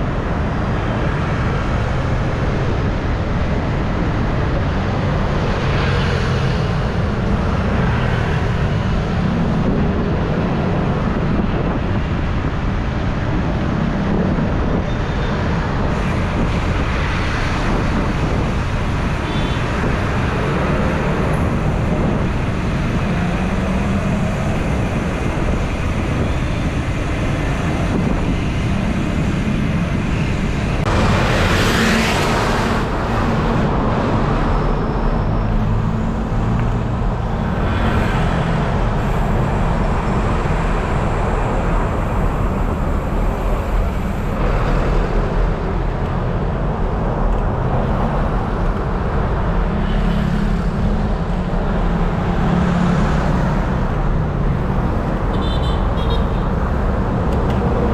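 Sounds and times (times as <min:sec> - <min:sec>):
highway traffic noise: 0:00.0 - 0:57.9
wind buffeting microphone: 0:06.4 - 0:57.9.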